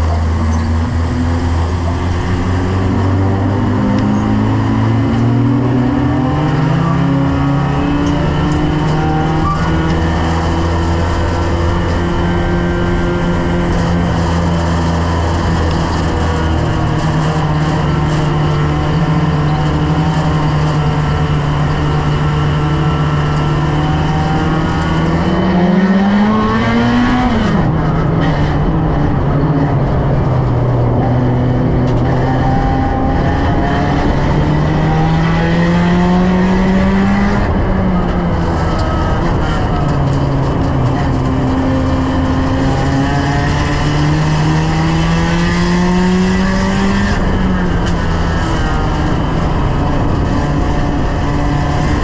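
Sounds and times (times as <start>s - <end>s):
race car engine from inside cabin: 0.0s - 52.0s
tyre and road noise: 0.0s - 52.0s.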